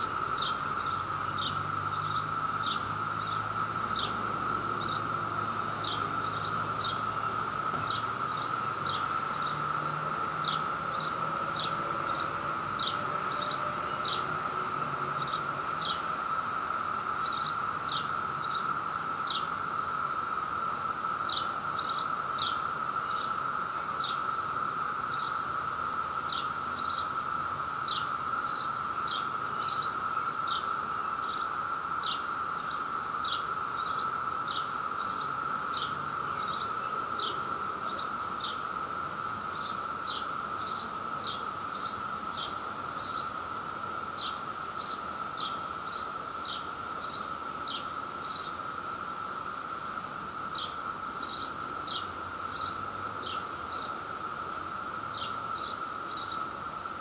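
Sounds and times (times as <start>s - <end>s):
cicada chorus drone: 0.0s - 57.0s.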